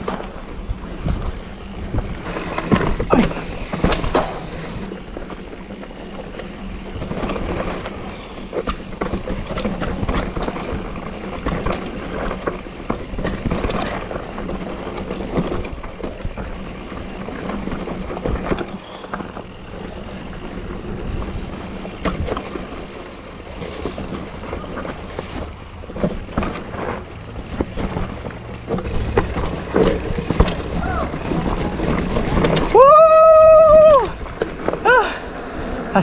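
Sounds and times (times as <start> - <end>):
bike clattering over bumps: 0.0 - 36.0
bike tyres rolling over dirt: 0.0 - 36.0.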